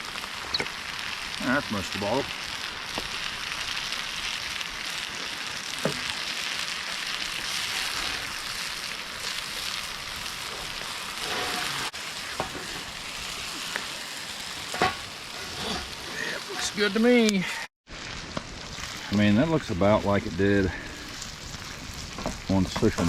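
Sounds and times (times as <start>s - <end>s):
food sizzling in a skillet: 0.0s - 23.0s.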